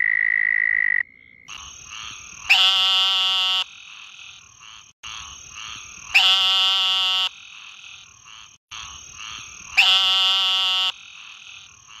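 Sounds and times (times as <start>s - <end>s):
frog calling: 0.0s - 12.0s
other frogs calling: 0.0s - 12.0s.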